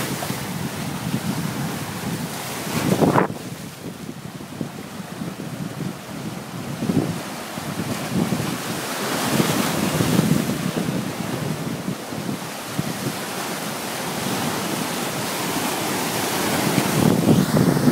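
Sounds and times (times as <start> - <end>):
waves breaking over boulders: 0.0 - 17.9.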